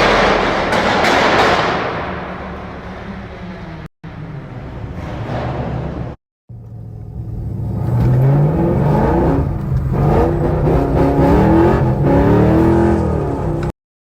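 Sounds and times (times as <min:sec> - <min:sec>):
car engine revving: 0:02.5 - 0:13.7.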